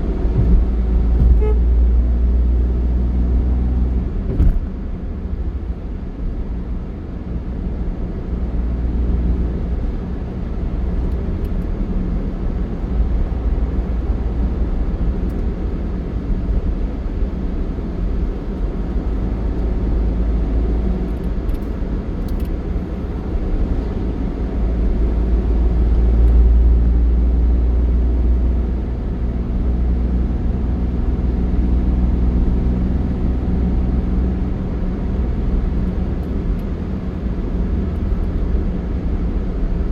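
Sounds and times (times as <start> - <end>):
vehicle rumble with road noise: 0.0 - 39.9.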